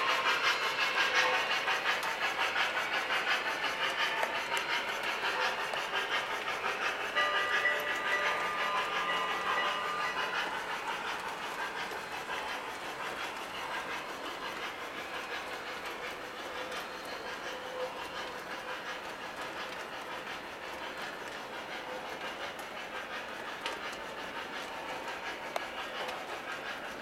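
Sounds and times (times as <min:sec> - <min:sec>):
model train rumbling and clicking: 0:00.0 - 0:27.0.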